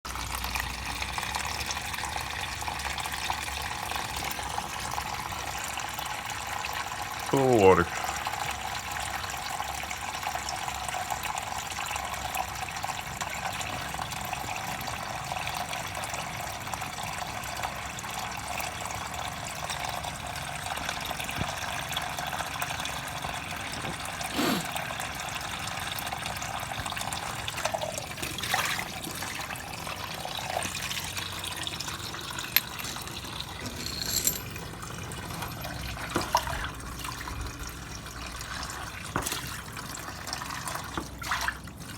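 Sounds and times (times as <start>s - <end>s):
oil trickling from drain hole: 0.1s - 41.9s.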